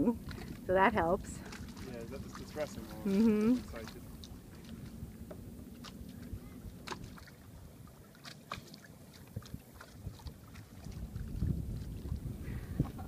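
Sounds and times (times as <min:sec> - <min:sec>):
small waves lapping: 0:00.0 - 0:13.0
wind rumble on microphone: 0:00.0 - 0:13.0.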